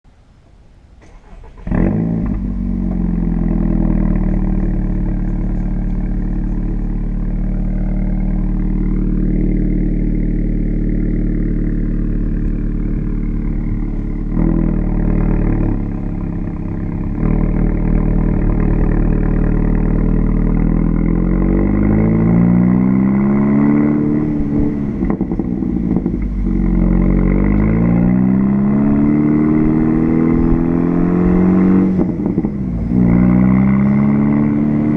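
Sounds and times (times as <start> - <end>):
car engine starting and idling: 0.4 - 34.9
engine revving: 1.0 - 34.9.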